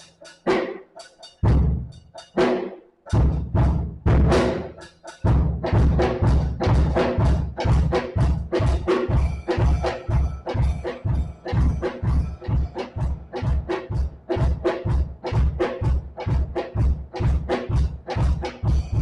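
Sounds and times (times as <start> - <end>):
drums heavy low strikes: 1.4 - 2.5, 3.1 - 19.0.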